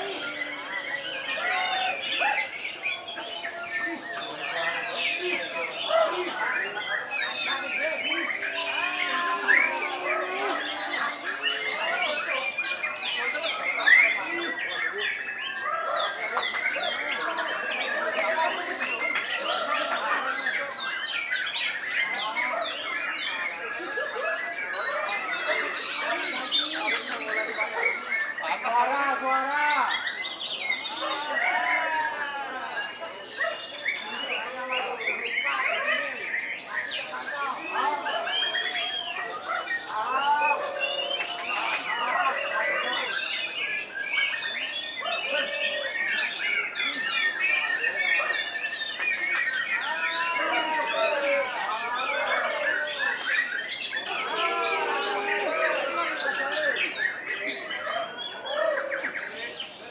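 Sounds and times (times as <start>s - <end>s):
songbirds whistling: 0.0s - 28.8s, 32.4s - 59.9s
birds singing: 0.0s - 59.9s.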